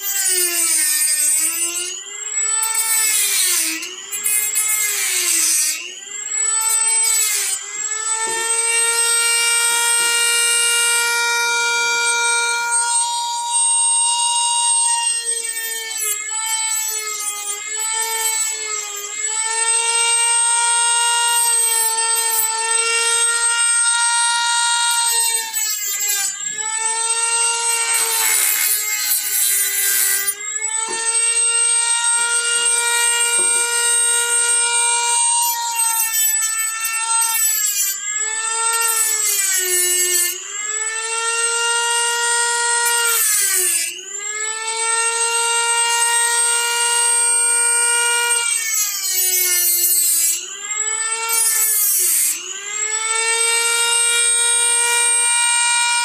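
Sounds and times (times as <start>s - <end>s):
rotary tool whining: 0.0s - 56.0s.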